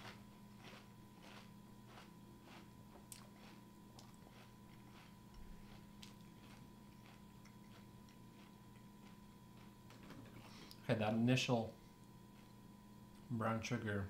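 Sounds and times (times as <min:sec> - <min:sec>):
soft crunching of cereal chewing: 0:00.0 - 0:11.0, 0:11.8 - 0:13.3.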